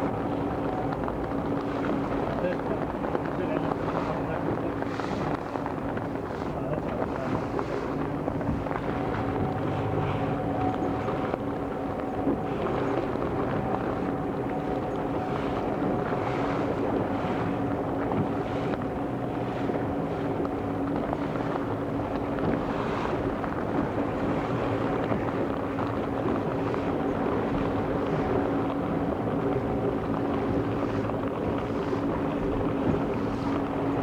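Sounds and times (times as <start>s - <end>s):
rushing water: 0.0s - 34.0s
wind buffeting microphone: 0.0s - 34.0s.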